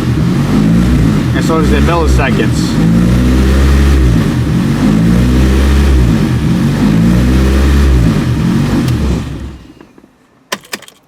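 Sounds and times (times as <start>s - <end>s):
car engine idling with surging revs: 0.0s - 9.9s.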